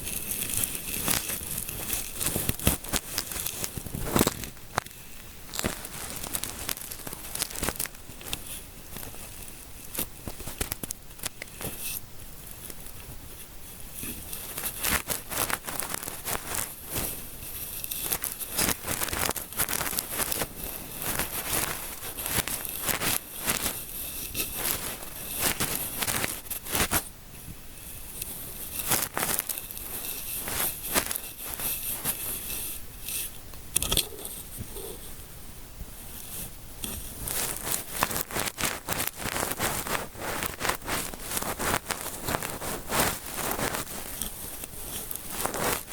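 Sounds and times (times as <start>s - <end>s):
fingers scratching through hair: 0.0s - 27.1s, 27.8s - 35.2s, 36.1s - 45.9s.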